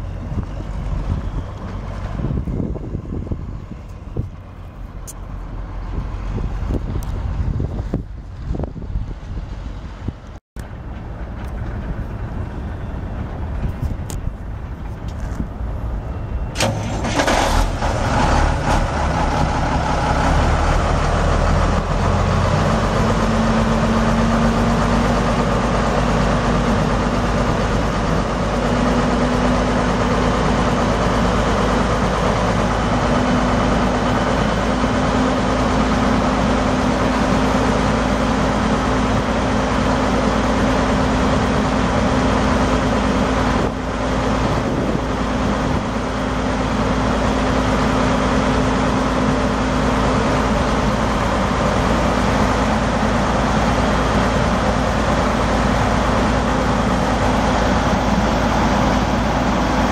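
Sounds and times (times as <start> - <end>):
diesel truck engine starting and idling: 0.0 - 59.9.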